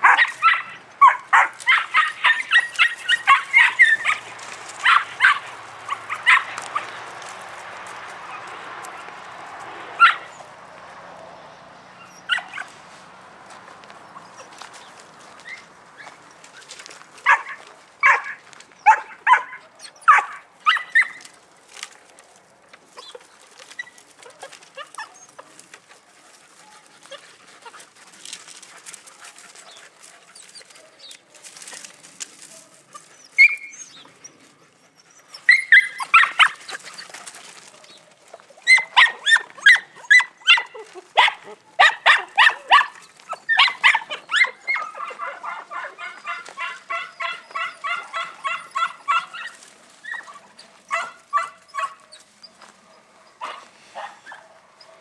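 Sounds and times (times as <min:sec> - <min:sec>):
puppies yapping: 0:00.0 - 0:55.0.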